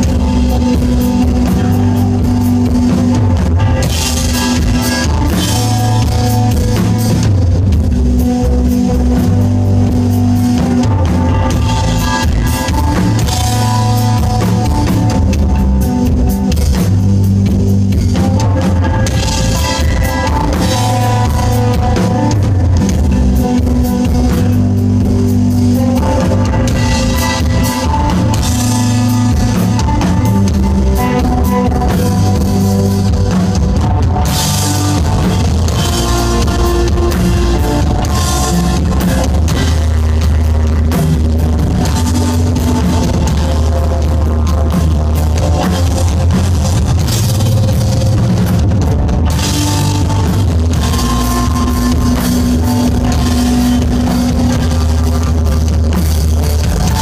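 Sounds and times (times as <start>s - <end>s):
live rock band playing loud: 0.0s - 57.0s.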